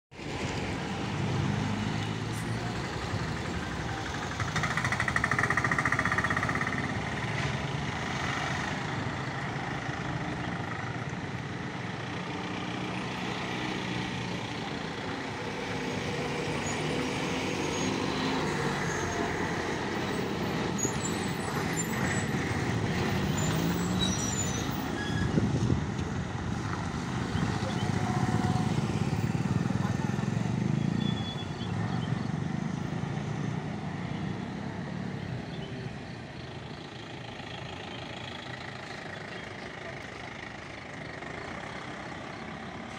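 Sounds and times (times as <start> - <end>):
road traffic passing: 0.1 - 42.9
motorcycles passing: 0.2 - 20.8, 24.8 - 42.9
diesel bus passing close: 0.2 - 42.9.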